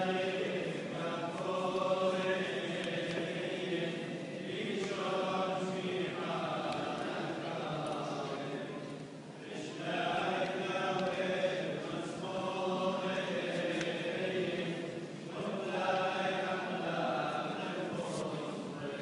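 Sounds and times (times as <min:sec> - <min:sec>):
chant sung in a church: 0:00.0 - 0:19.0.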